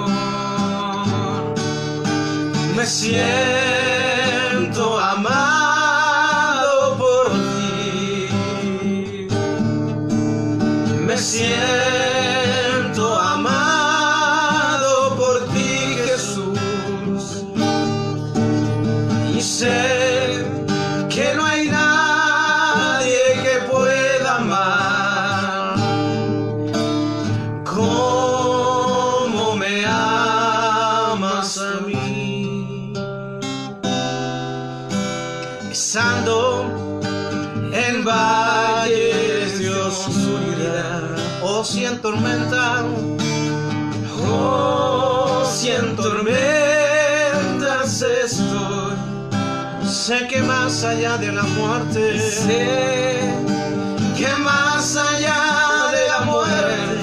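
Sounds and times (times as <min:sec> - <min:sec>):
men singing worship song: 0:00.0 - 0:01.5, 0:02.6 - 0:09.4, 0:10.9 - 0:17.8, 0:19.1 - 0:26.2, 0:27.4 - 0:32.8, 0:35.7 - 0:36.8, 0:37.6 - 0:43.2, 0:43.9 - 0:57.0
acoustic guitar strumming: 0:00.0 - 0:57.0.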